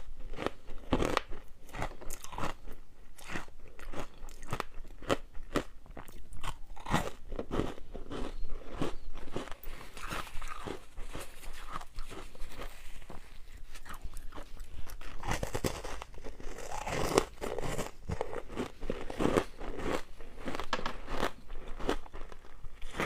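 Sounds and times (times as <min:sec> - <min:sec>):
ice being chewed: 0:00.2 - 0:23.0.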